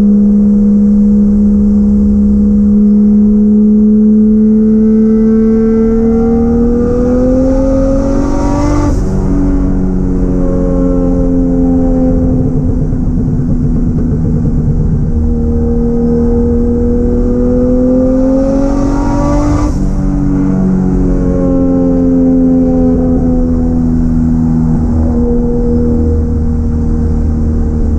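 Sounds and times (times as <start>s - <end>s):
car engine running: 0.0s - 27.9s.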